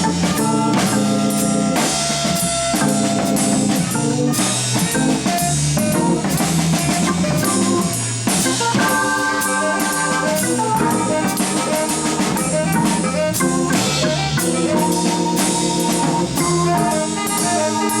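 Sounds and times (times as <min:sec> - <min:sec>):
bass line: 0:00.0 - 0:18.0
drum kit and cymbals: 0:00.0 - 0:18.0
organ chords: 0:00.0 - 0:18.0.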